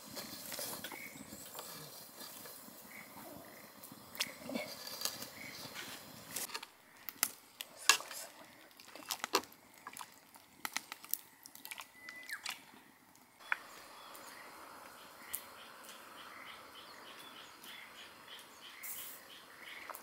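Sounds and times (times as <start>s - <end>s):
firewood crackling: 0.0s - 20.0s
water boiling: 0.0s - 20.0s.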